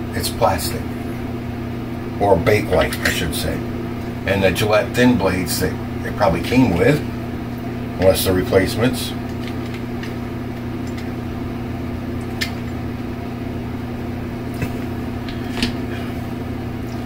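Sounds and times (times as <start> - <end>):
appliance hum: 0.0 - 17.0.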